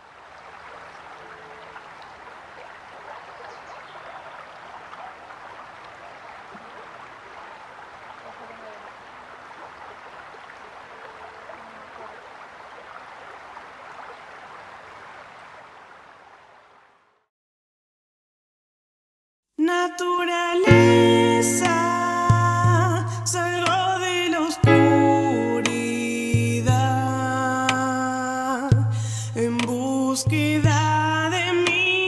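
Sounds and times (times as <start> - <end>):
running water rushing: 0.0 - 17.0, 20.6 - 32.0.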